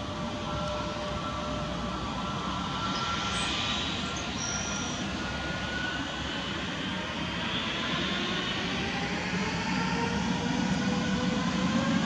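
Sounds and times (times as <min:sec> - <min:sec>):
distant jet engines at takeoff power: 0:00.0 - 0:12.0.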